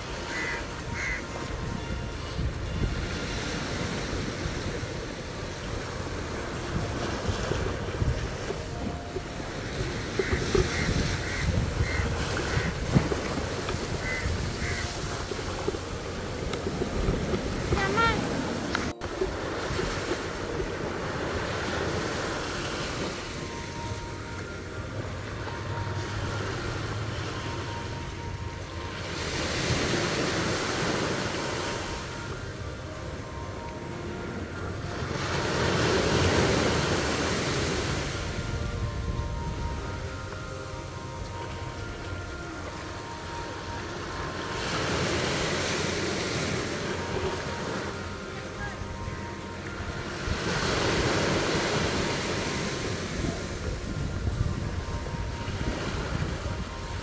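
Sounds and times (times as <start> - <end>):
waves washing on beach: 0.0 - 57.0
wind buffeting microphone: 0.0 - 57.0.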